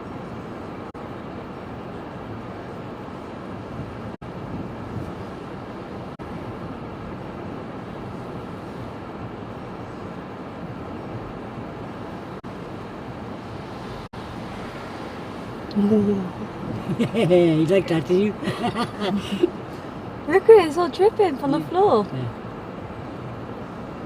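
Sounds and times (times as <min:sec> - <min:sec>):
storm wind and sea rushing: 0:00.0 - 0:24.0.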